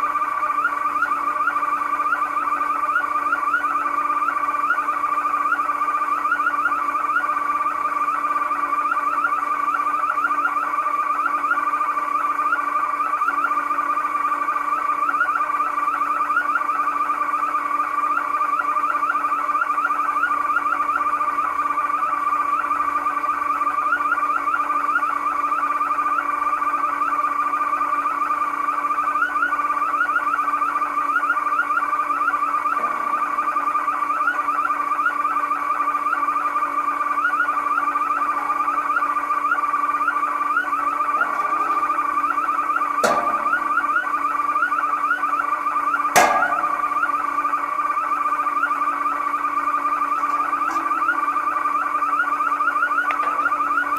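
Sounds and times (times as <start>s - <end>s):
car alarm siren warbling: 0.0s - 53.9s.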